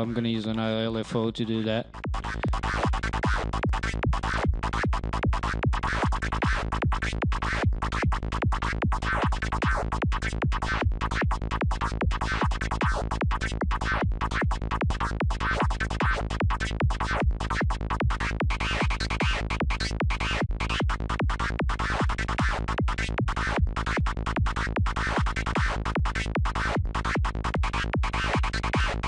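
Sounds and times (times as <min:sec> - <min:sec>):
bassline: 0:00.0 - 0:29.0
kick drum: 0:02.0 - 0:29.0.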